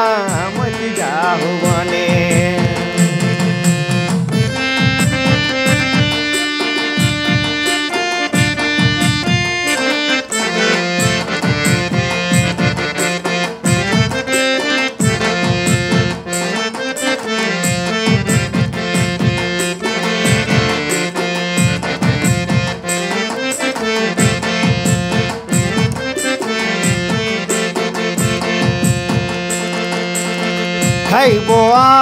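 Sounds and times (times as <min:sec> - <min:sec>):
harmonium melody: 0:00.0 - 0:32.0.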